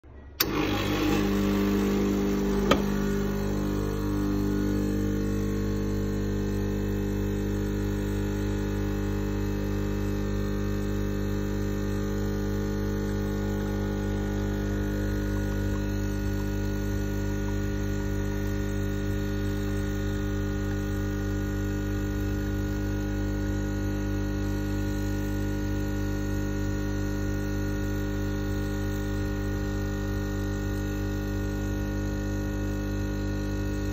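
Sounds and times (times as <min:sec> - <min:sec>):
espresso machine pump humming: 0:00.4 - 0:33.9.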